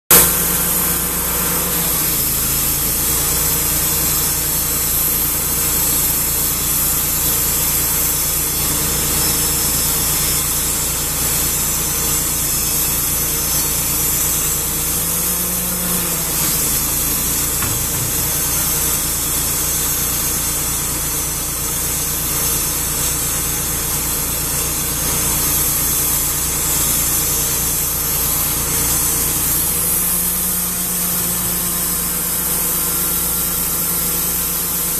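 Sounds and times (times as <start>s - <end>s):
band saw cutting wood: 0.1s - 34.9s
gas engine running under load: 0.1s - 34.9s.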